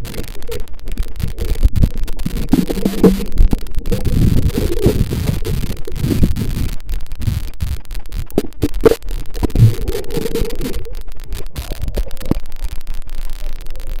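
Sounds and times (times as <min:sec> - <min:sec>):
muffled underwater sloshing: 0:00.0 - 0:14.0.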